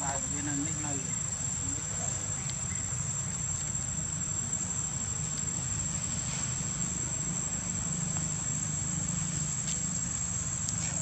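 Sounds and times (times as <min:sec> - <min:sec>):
insects droning: 0:00.0 - 0:11.0
low steady rumble: 0:00.0 - 0:11.0.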